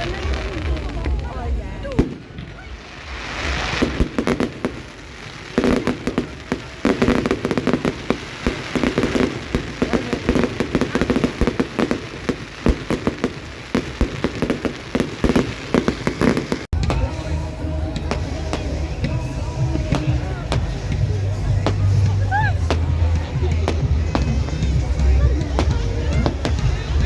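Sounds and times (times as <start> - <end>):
fireworks crackling: 0.0 - 27.0.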